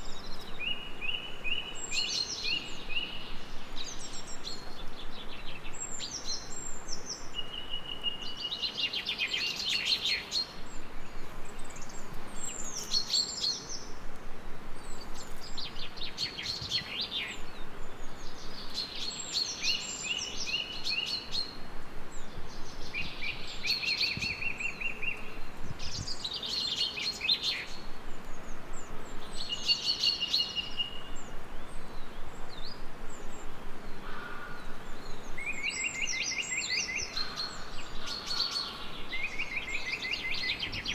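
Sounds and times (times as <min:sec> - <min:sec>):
songbird singing with trill: 0:00.0 - 0:14.0, 0:14.8 - 0:40.9.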